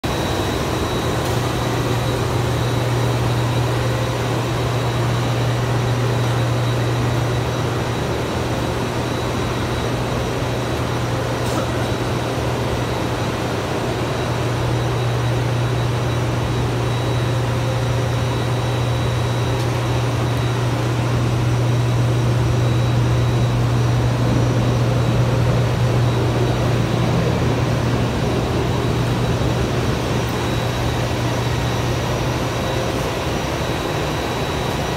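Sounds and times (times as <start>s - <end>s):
faint high whine: 0.0s - 34.9s
low machinery hum: 0.0s - 34.9s.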